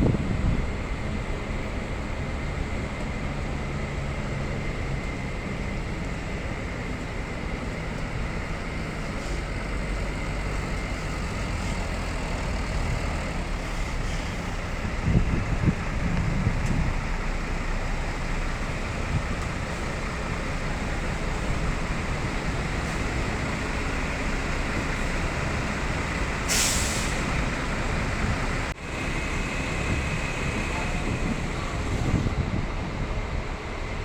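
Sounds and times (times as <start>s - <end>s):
vehicle rumbling hiss: 0.0s - 34.0s.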